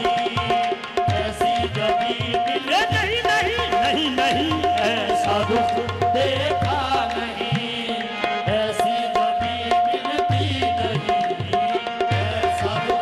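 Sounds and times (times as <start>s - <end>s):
tabla rhythm: 0.0s - 13.0s.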